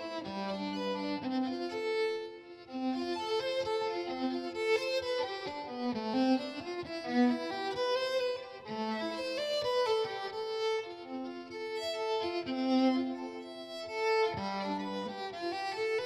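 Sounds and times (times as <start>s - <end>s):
instrumental accompaniment: 0.0s - 16.0s
violin melody: 0.0s - 16.0s.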